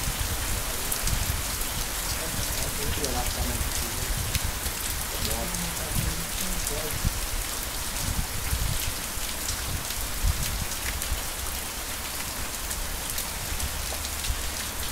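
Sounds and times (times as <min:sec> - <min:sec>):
heavy rain: 0:00.0 - 0:14.9.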